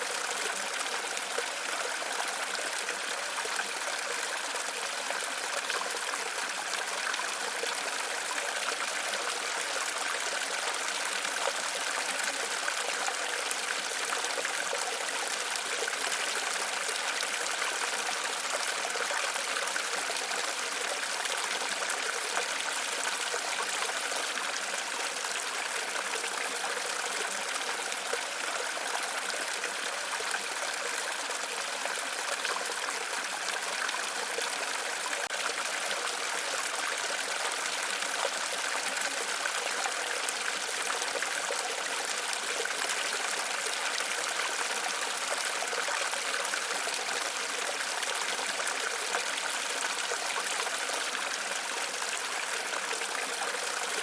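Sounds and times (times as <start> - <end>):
waterfall: 0.0 - 54.0.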